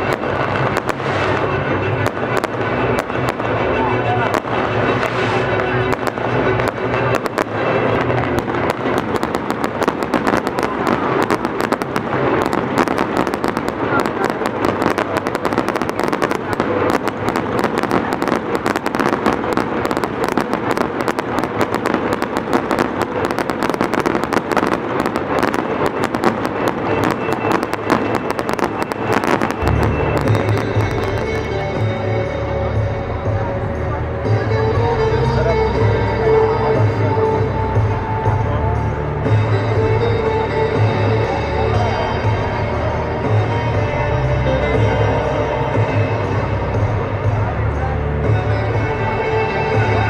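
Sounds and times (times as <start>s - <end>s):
fireworks bangs and crackling: 0.0s - 50.0s.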